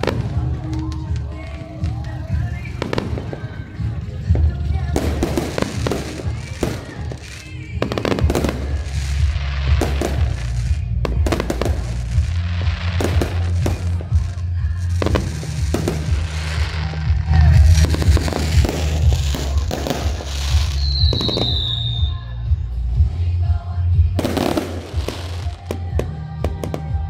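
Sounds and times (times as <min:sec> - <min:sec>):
fireworks bangs and crackling: 0:00.0 - 0:27.0
music: 0:00.0 - 0:27.0.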